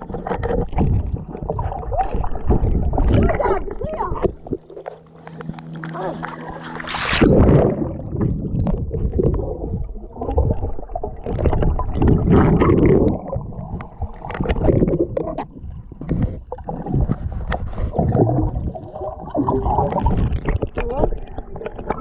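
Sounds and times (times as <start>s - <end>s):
underwater clicks and knocks: 0.0s - 6.4s, 10.2s - 22.0s
muffled underwater water rumble: 0.0s - 22.0s
underwater bubbling: 0.0s - 22.0s.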